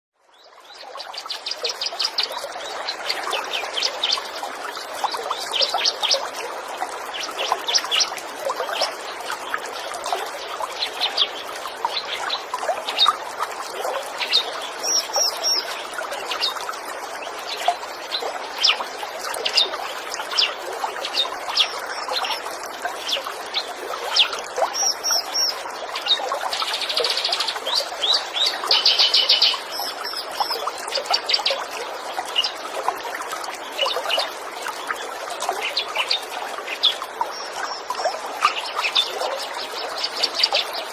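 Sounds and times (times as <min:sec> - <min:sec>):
trickling stream water: 0:00.2 - 0:40.9.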